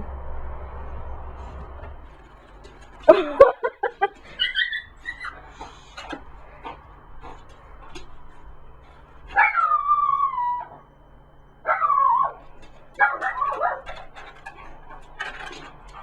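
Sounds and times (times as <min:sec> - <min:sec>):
faint clicks: 0:00.0 - 0:16.0
dog whining: 0:01.0 - 0:16.0.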